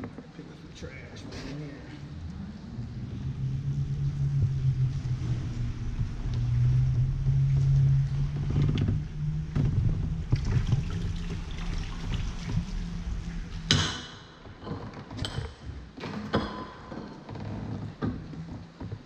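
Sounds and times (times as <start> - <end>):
low engine drone: 0.4 - 18.1.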